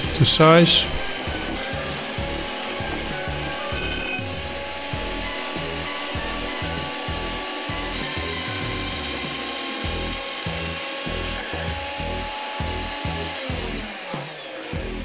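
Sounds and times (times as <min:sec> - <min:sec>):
background music with beat: 0:00.0 - 0:15.0
band saw cutting steel: 0:00.0 - 0:15.0.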